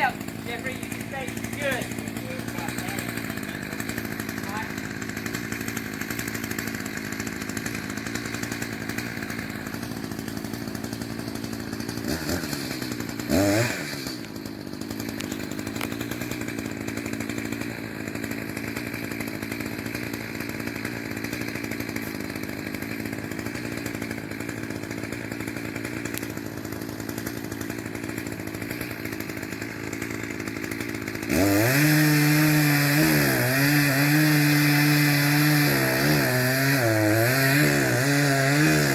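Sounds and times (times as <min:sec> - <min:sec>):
two-stroke chainsaw running: 0:00.0 - 0:38.9.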